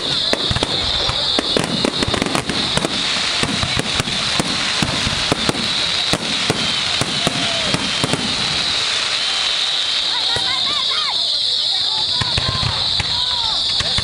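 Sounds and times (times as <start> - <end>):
fireworks crackle and bangs: 0.0 - 14.0.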